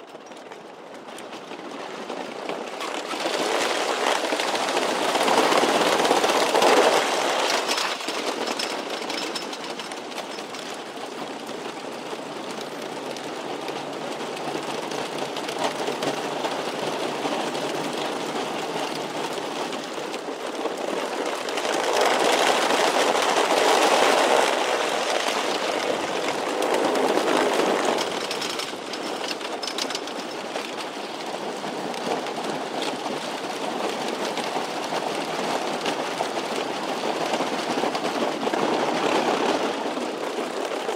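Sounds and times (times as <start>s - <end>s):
roller coaster rattling on track: 0.0s - 40.9s.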